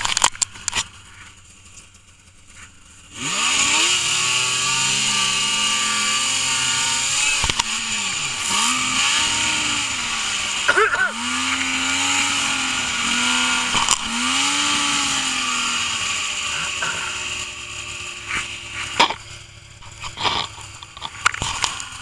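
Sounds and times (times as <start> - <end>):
snowmobile engine revving: 2.6 - 22.0.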